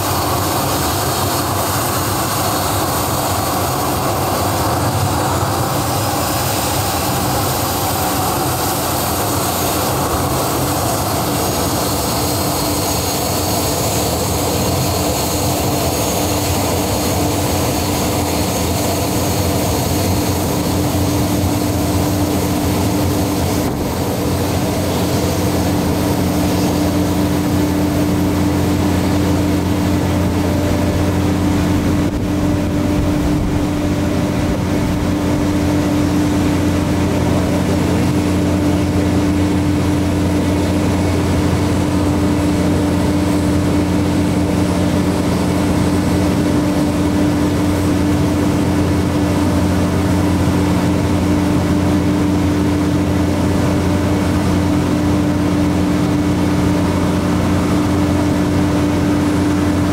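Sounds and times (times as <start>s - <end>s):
loud engine drone: 0.0s - 59.9s.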